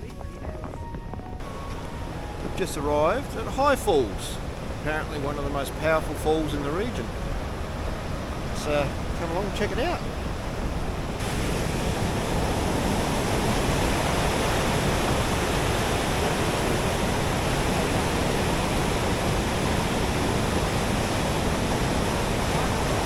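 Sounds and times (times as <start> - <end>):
waterfall rushing: 0.3 - 23.0.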